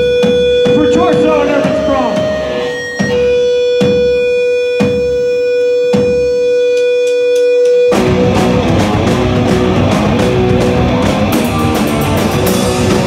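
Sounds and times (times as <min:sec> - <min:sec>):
electric guitar ringing note: 0:00.0 - 0:13.0
punk band playing: 0:00.0 - 0:13.0.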